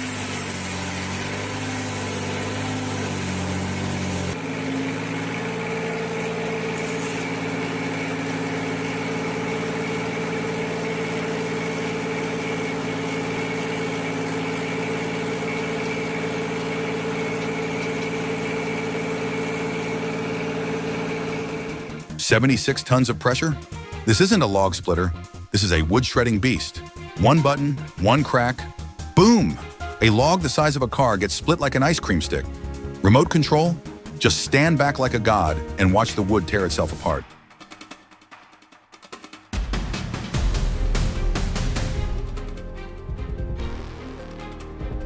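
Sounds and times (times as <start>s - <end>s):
engine running: 0.0s - 38.0s, 39.6s - 45.0s.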